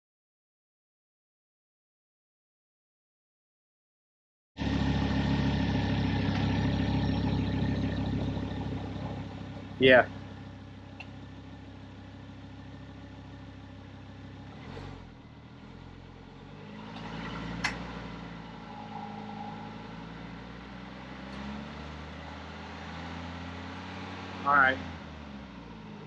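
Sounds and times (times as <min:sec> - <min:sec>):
car engine idling: 0:04.6 - 0:26.0.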